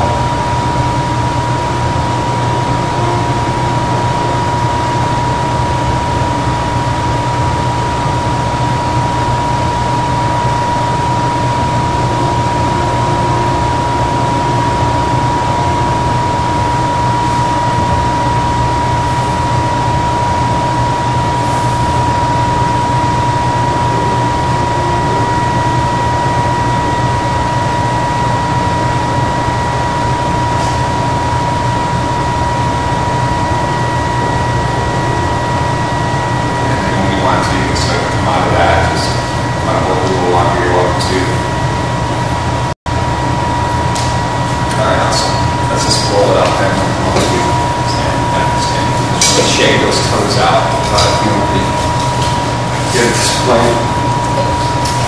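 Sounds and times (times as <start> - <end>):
high-pitched whine: 0.0 - 55.0
low hum: 0.0 - 55.0.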